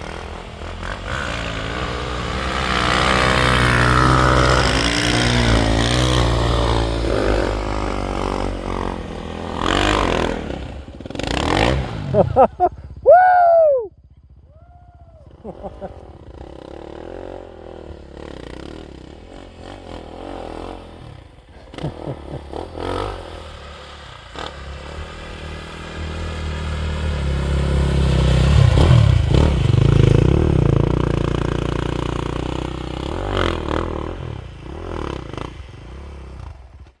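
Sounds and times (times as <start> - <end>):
motorbike engine revving: 0.0 - 37.0.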